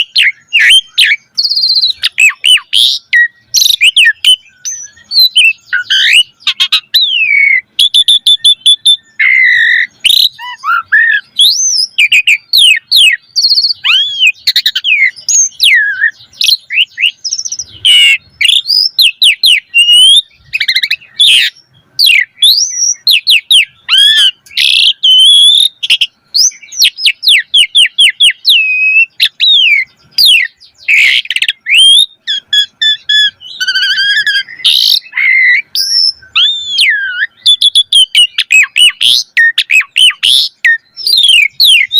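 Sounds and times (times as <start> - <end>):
starling singing: 0.0 - 41.9.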